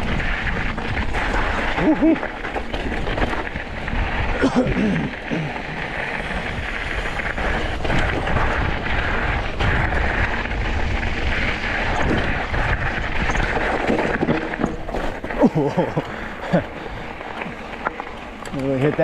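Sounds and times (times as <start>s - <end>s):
bike knocking over rocks: 0.0s - 19.0s
tyres rumbling on gravel: 0.0s - 19.0s
wind rush on microphone: 0.0s - 19.0s.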